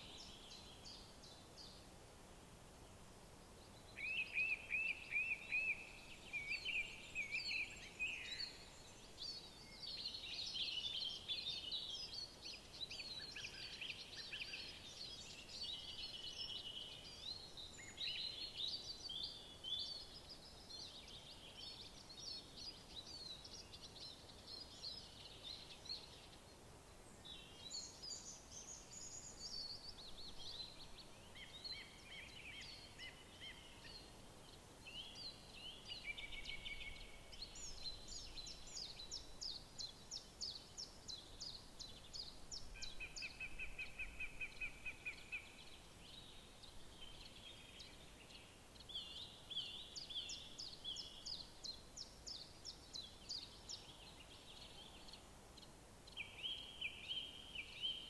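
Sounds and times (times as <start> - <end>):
songbirds singing and chirping: 0.0 - 1.9, 3.5 - 58.0
faint steady hiss: 0.0 - 58.0.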